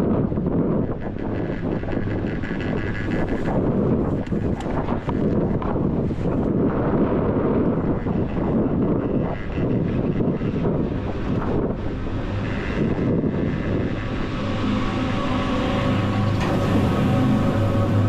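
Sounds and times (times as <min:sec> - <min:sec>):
droning music: 0:00.0 - 0:18.0
wind rumble: 0:00.0 - 0:18.0
chairlift machinery noise: 0:00.1 - 0:18.0.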